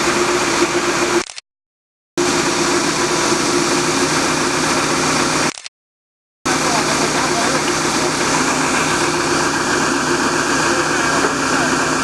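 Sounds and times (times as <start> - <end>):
diesel engine running: 0.0 - 1.3, 2.2 - 5.6, 6.5 - 12.0.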